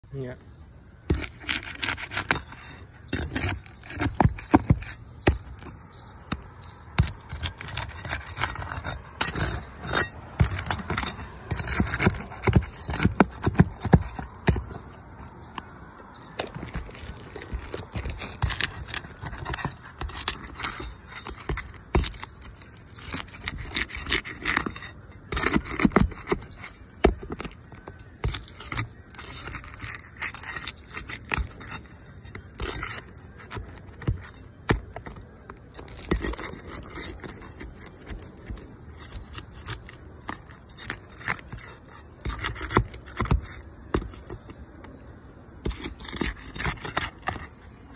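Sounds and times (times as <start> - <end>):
pry bar scraping roof shingles: 1.0 - 47.9.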